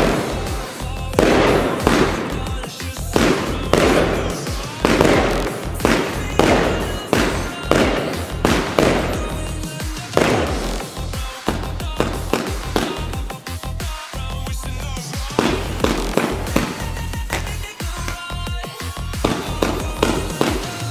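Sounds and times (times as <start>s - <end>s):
fireworks shots with crackling tails: 0.0s - 13.8s, 15.1s - 20.9s.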